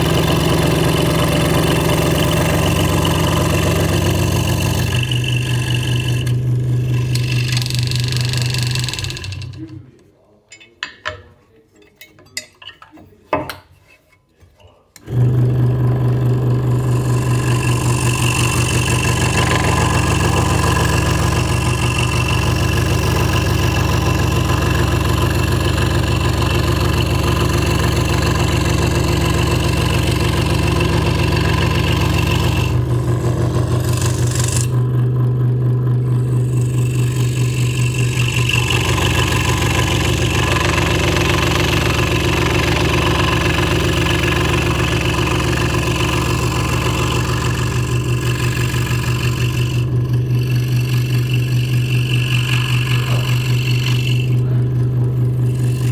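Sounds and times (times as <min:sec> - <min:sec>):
scroll saw cutting wood: 0:00.0 - 0:09.9, 0:15.0 - 0:34.9, 0:36.0 - 0:55.9.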